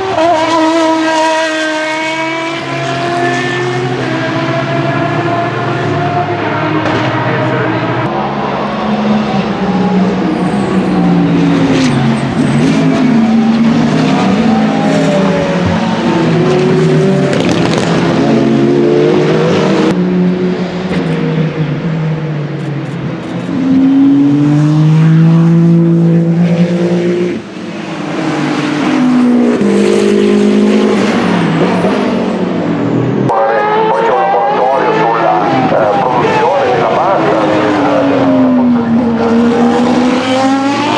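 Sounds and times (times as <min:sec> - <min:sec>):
race cars passing at speed: 0:00.0 - 0:40.9.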